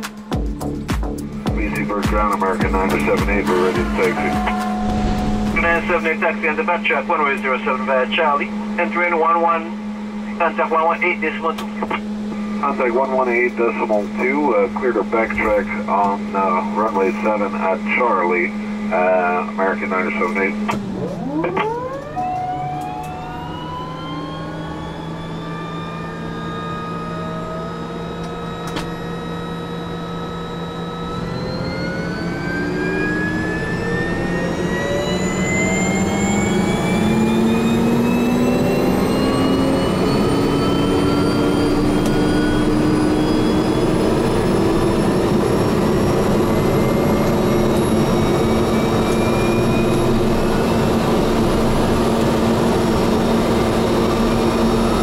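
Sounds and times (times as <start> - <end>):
turboprop engine starting: 0.0 - 55.0.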